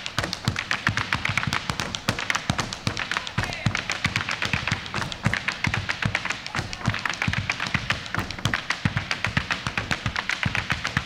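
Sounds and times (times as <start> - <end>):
bass drum beats: 0.0 - 11.0
boleadoras tapping on stage floor: 0.0 - 11.0.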